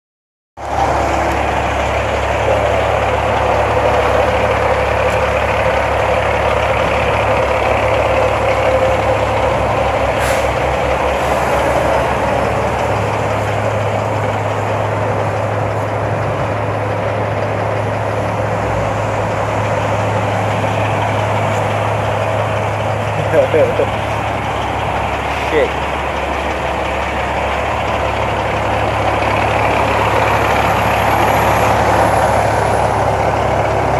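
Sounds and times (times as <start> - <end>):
diesel engine idling: 0.6 - 33.9.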